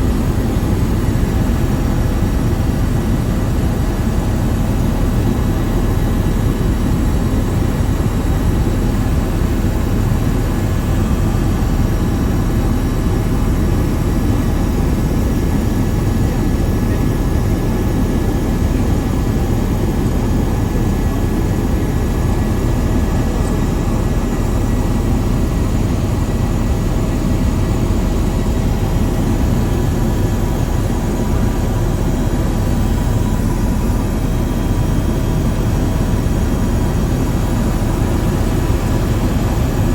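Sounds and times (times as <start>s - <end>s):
aircraft engine and wind rumble: 0.0s - 39.9s.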